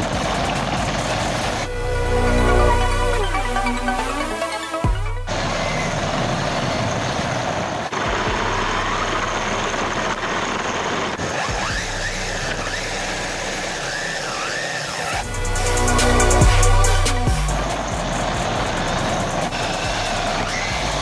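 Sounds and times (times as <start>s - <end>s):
tyre and drivetrain rush: 0.0s - 2.1s, 2.7s - 21.0s.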